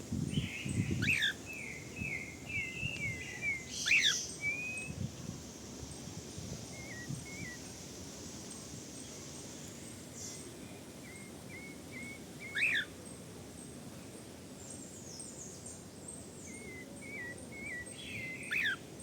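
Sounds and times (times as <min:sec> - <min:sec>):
songbird singing whistled notes: 0:00.3 - 0:05.2, 0:05.9 - 0:07.8, 0:08.5 - 0:12.9, 0:14.6 - 0:19.0.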